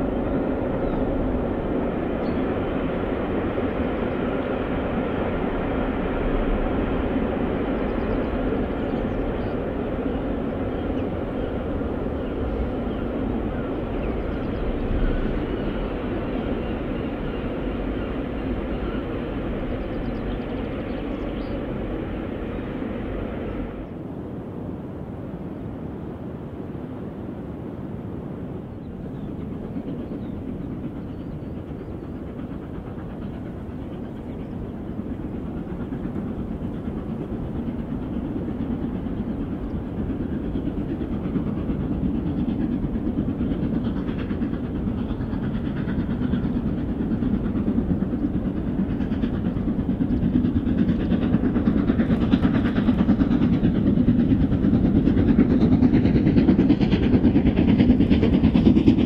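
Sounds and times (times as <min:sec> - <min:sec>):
steam locomotive exhaust: 0:00.0 - 0:24.0, 0:28.4 - 0:59.0
train running noise: 0:00.0 - 0:59.0.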